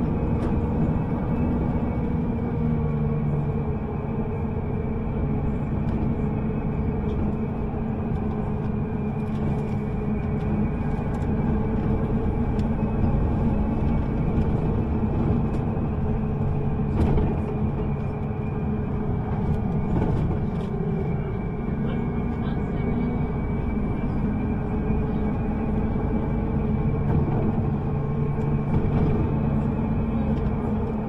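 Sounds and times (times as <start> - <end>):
bus engine hum and road rumble: 0.0 - 31.0.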